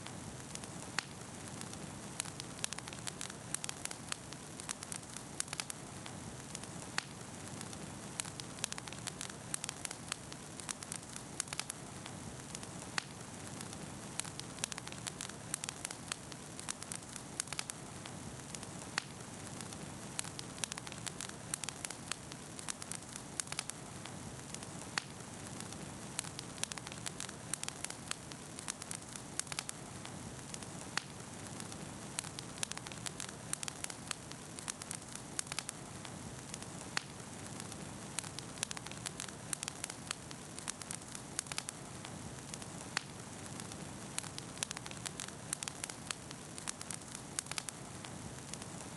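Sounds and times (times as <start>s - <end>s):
bonfire crackling: 0.0s - 48.9s.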